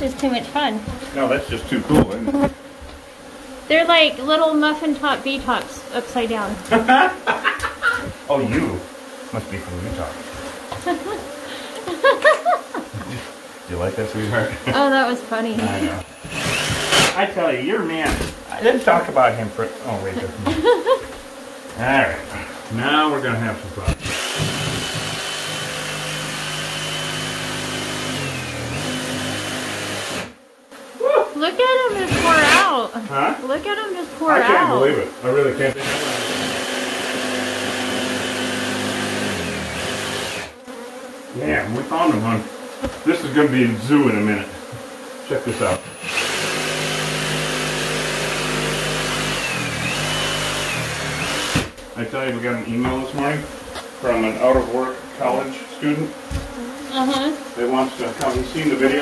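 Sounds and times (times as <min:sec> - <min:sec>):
reciprocating saw cutting ceiling: 0:06.6 - 0:14.8, 0:15.6 - 0:30.4, 0:31.8 - 0:32.9, 0:33.7 - 0:40.6, 0:41.3 - 0:59.0.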